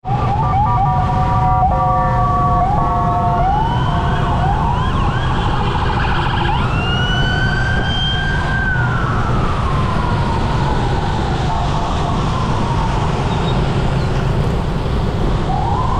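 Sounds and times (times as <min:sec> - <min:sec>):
low traffic rumble: 0:00.0 - 0:15.9
two-tone siren: 0:00.0 - 0:15.9
wailing sirens: 0:00.0 - 0:15.9.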